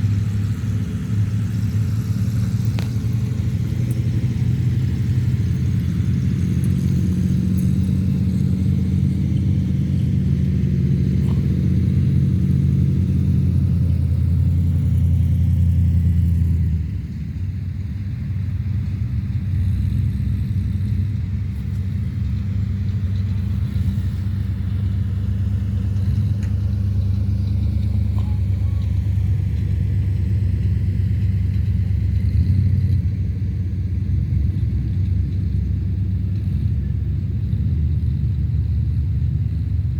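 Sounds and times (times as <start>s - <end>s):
vehicle engine deep rumble: 0.0s - 39.9s.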